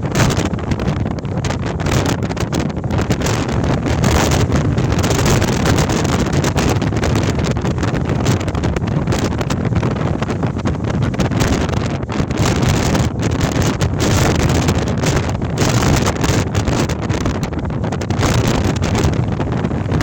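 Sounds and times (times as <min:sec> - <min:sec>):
storm wind gusting: 0:00.0 - 0:20.0.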